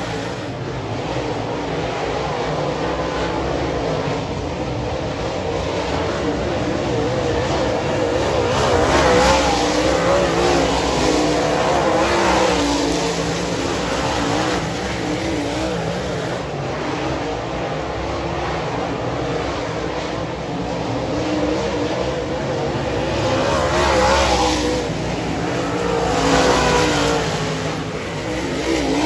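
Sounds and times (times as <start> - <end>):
race car engines passing by: 0.0 - 29.0.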